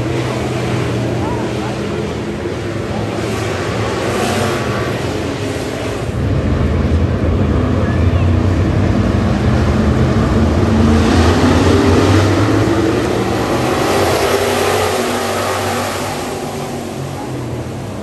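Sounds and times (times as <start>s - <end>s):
race cars racing past: 0.0s - 18.0s.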